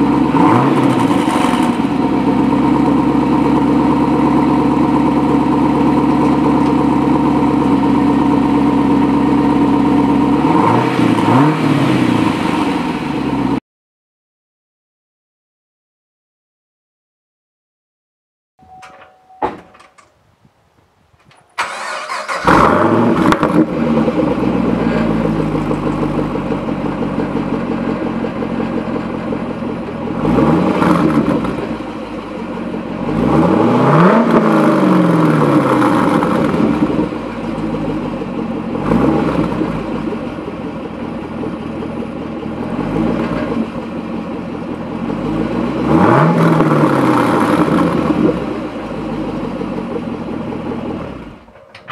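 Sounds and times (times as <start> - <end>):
car engine idling: 0.0 - 13.6, 20.8 - 51.9
car engine revving: 0.0 - 13.6, 21.6 - 51.4
car engine starting: 0.0 - 13.6, 21.0 - 51.9.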